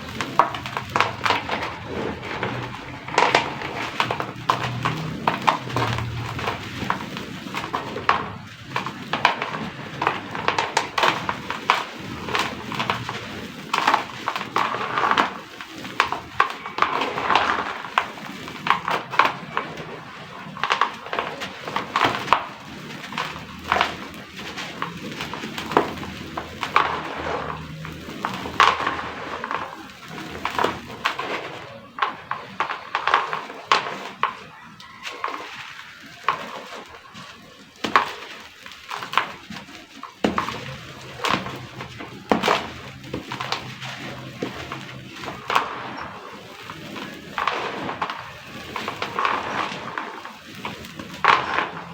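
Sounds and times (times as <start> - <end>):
dry clay chunks crumbling: 0.0 - 51.9.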